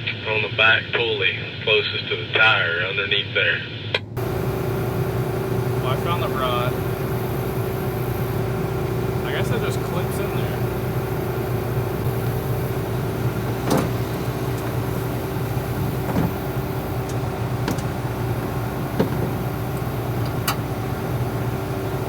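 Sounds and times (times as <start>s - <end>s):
harvester engine idling: 4.2s - 22.0s.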